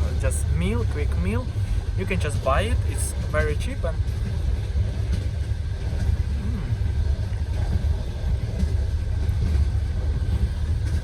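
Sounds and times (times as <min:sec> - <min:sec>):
train rumble inside compartment: 0:00.0 - 0:11.0.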